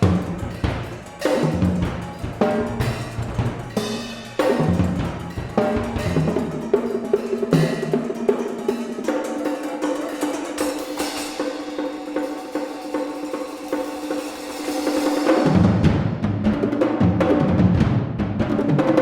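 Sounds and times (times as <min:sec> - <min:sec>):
ringing pitched percussion tones: 0:00.0 - 0:15.6
drums playing: 0:00.0 - 0:19.0.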